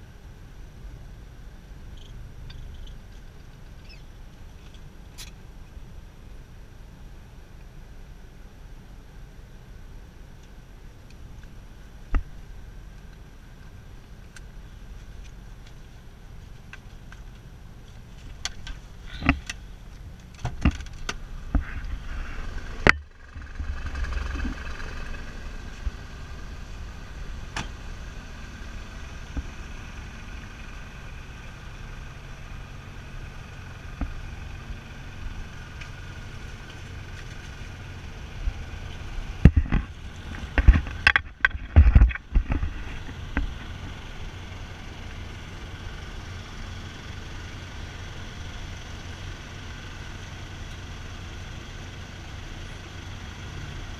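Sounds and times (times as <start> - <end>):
ferry engine droning: 0.0 - 53.9.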